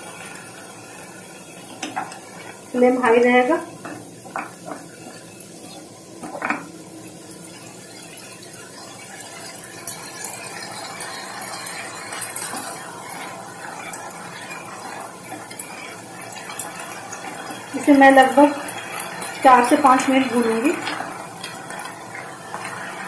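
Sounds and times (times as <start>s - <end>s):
vegetables sizzling in a frying pan: 0.0s - 23.0s.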